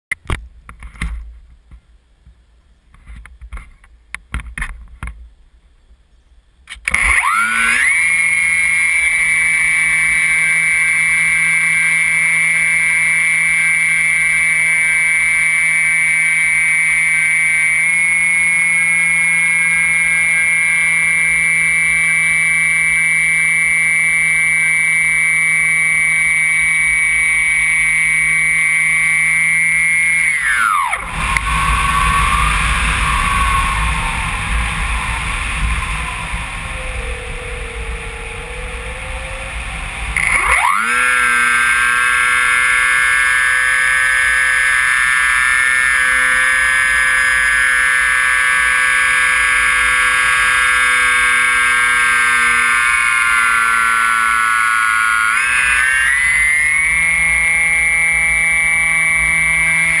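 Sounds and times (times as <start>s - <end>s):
electric motor and propeller whine: 6.7s - 60.0s.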